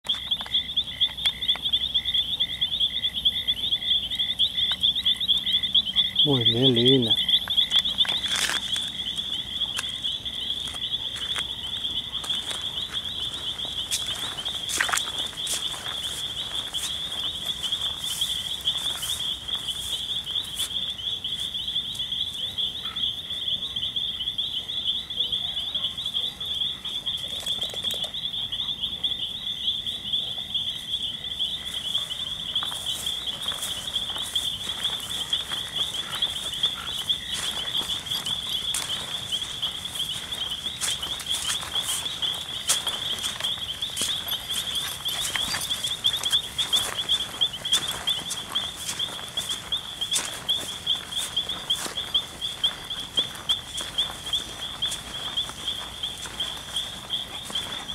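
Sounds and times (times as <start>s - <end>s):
footsteps on gravel and grass: 0.0s - 1.8s, 4.1s - 22.6s, 31.0s - 57.9s
crickets trilling: 0.0s - 57.9s
frogs calling: 0.0s - 57.9s.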